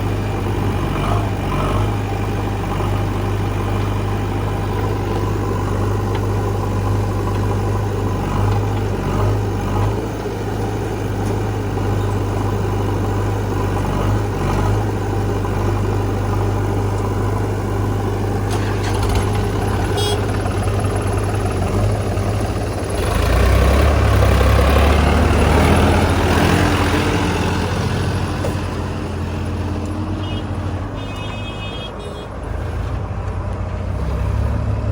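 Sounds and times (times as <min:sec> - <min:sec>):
engine whine: 0:00.0 - 0:34.9
heavy diesel engines running: 0:00.0 - 0:34.9.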